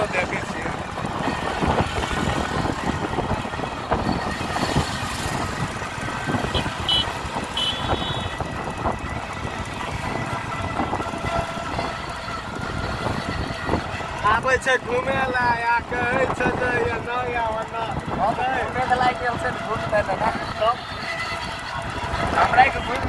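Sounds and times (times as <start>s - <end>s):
engine and tyre noise: 0.0s - 23.0s
wind rumble on microphone: 0.0s - 23.0s.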